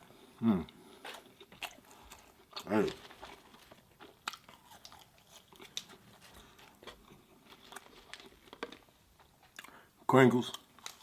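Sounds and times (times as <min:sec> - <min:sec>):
person chewing with crunches: 0:00.0 - 0:11.0.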